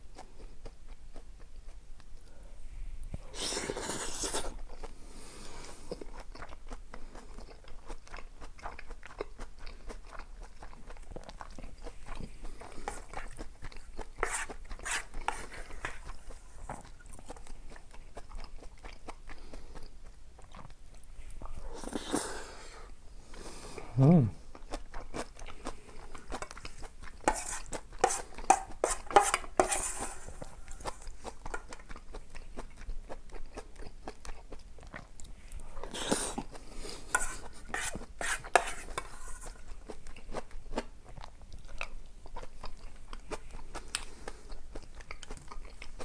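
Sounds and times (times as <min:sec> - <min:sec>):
person chewing and biting food: 0:00.0 - 0:02.1, 0:03.2 - 0:22.5, 0:24.5 - 0:29.2, 0:30.2 - 0:46.0.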